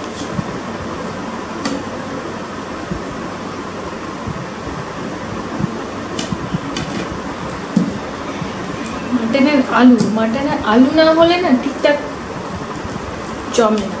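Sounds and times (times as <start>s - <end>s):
fan noise: 0.0s - 14.0s.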